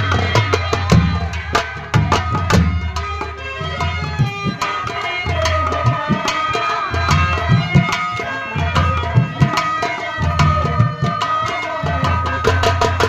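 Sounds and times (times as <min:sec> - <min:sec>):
fast tabla and drum rhythm: 0:00.0 - 0:13.0.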